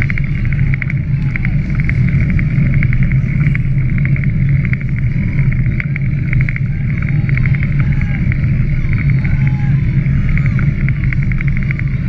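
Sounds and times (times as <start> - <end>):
low rumble of wind and motion: 0.0 - 12.0.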